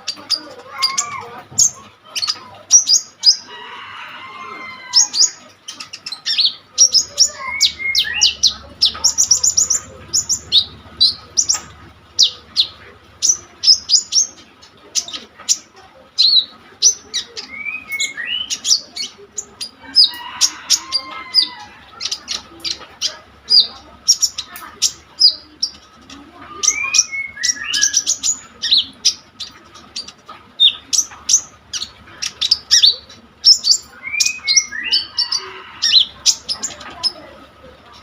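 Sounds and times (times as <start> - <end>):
songbird chirping: 0.0 - 38.0.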